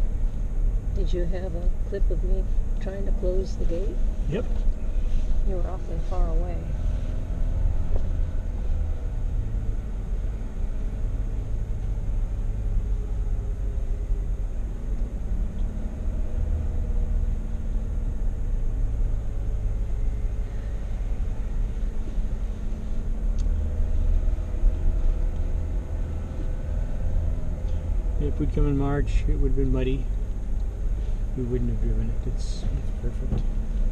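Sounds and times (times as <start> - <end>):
tyres on dirt road: 0.0 - 33.9
vehicle engine rumble: 0.0 - 33.9.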